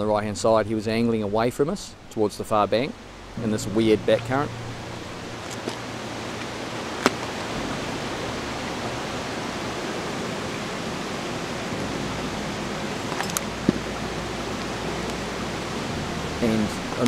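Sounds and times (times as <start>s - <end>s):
river water rushing: 0.7s - 17.0s.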